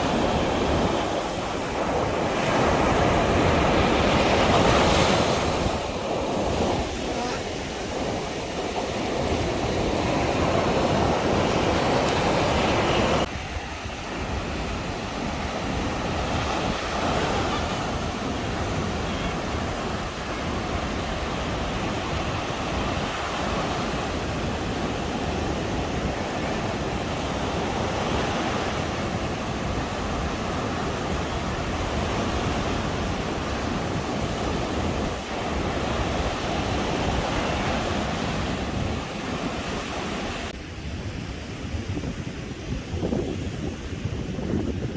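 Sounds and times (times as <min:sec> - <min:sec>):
surf washing onto beach: 0:00.0 - 0:44.9
wind on microphone: 0:00.0 - 0:44.9.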